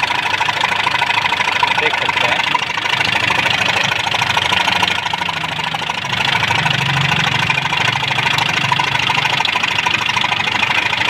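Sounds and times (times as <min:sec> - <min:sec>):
car engine idling: 0:00.0 - 0:11.0
rapid valve ticking: 0:00.0 - 0:11.0.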